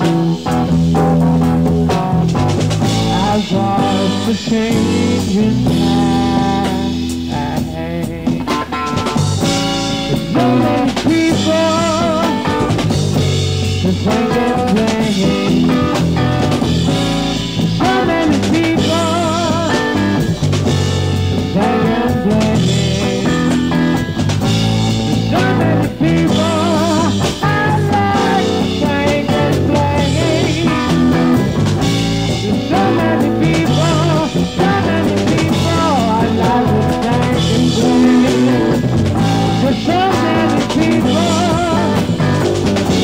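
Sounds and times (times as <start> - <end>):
drum kit: 0.0 - 43.0
rock band playing live: 0.0 - 43.0
steady bass: 0.0 - 43.0.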